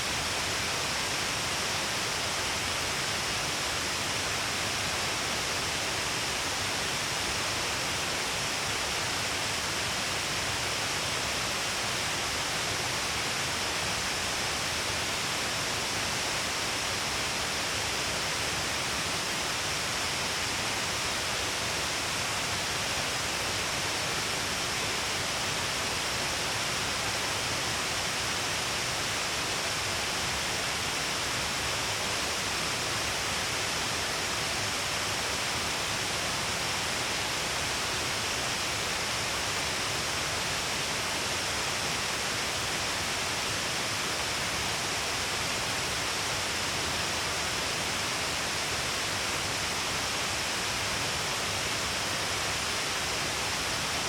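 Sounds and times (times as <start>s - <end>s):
rush of falling water: 0.0s - 54.0s.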